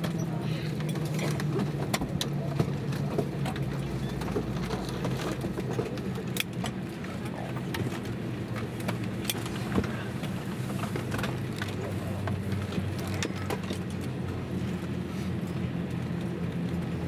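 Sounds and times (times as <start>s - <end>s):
jet engines idling hum: 0.0s - 17.0s.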